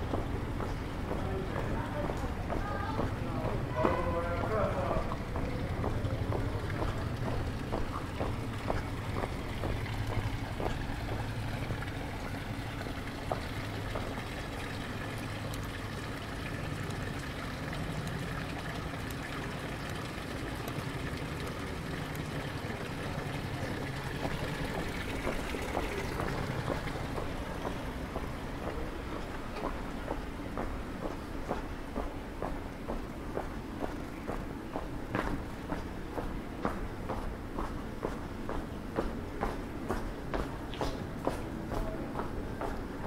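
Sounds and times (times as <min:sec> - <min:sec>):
fountain water splashing into basin: 0:00.0 - 0:43.0.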